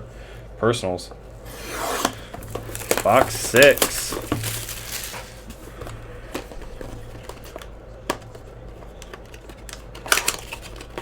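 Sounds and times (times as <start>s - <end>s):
low steady hum: 0.0s - 11.0s
card packs clicking and crinkling: 1.5s - 11.0s.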